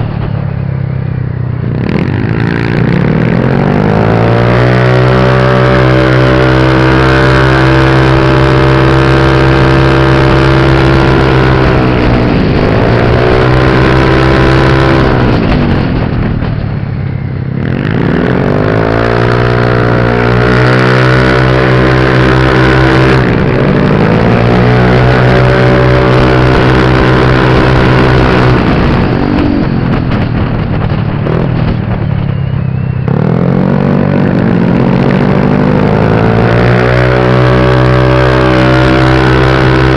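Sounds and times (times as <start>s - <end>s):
motorbike engine running hard: 0.0s - 39.9s.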